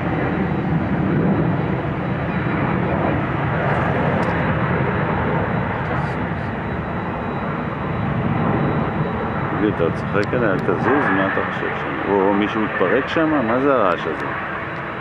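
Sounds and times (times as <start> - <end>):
jet airliner rumble overhead: 0.0 - 15.0.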